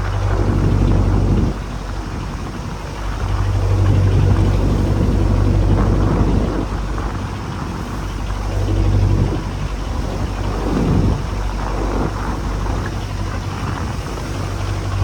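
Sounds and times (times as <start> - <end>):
boat engine humming: 0.0 - 15.0
sea noise: 0.0 - 15.0
wind: 0.0 - 15.0.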